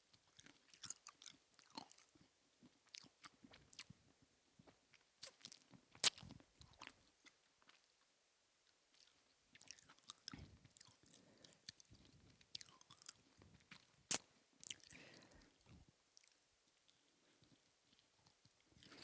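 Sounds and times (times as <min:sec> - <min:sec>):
person chewing and crunching: 0:00.2 - 0:04.0, 0:04.6 - 0:07.9, 0:08.9 - 0:19.0.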